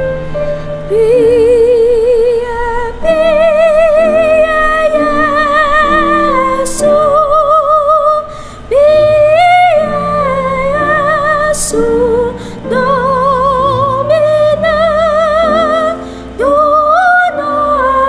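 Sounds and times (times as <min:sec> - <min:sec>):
piano accompaniment: 0:00.0 - 0:18.0
soprano singing with vibrato: 0:00.8 - 0:18.0.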